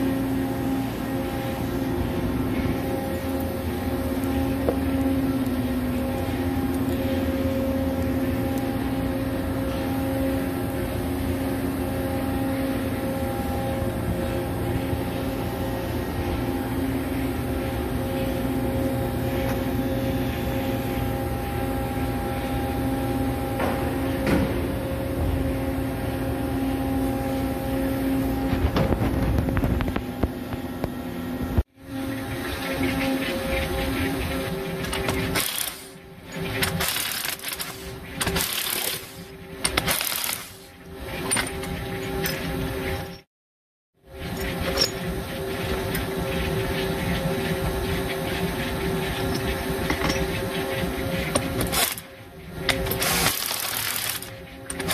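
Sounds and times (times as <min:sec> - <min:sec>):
machinery hum: 0:00.0 - 0:43.3, 0:44.0 - 0:54.9.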